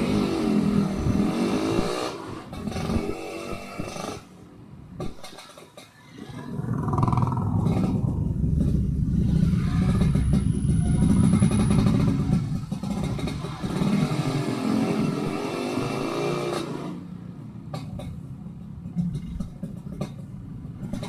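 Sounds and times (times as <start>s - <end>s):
two-stroke motorcycle riding: 0.0s - 4.4s, 6.3s - 21.0s.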